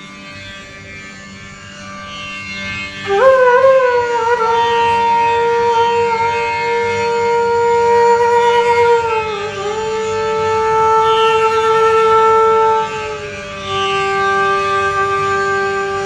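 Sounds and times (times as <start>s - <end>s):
bamboo flute note: 3.0s - 16.0s.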